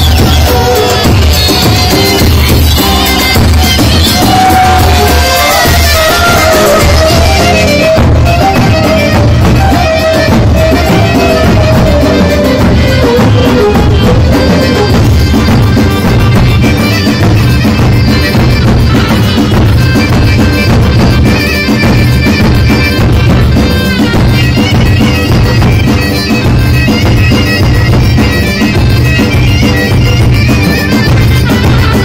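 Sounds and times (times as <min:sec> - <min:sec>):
folk dance music on keyboard: 0:00.0 - 0:32.0.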